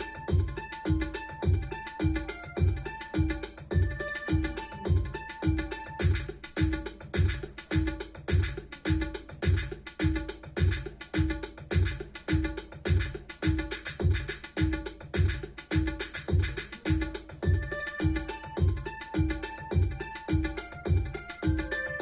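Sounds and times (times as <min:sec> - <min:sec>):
music with heavy bass beat: 0:00.0 - 0:22.0
tabla-like percussion: 0:00.0 - 0:22.0.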